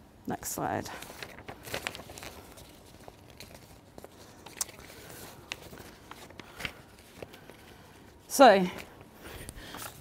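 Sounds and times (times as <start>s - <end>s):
soft rustles: 0.9s - 10.0s.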